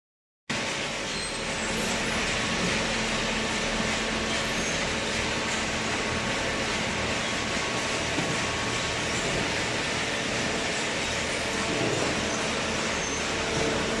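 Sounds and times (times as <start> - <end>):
baling machine running: 0.5 - 14.0.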